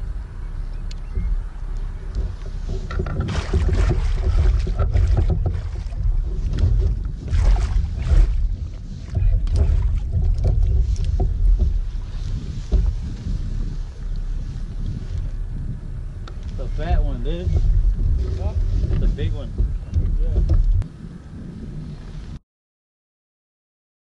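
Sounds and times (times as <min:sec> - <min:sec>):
wind buffeting microphone: 0:00.0 - 0:22.4.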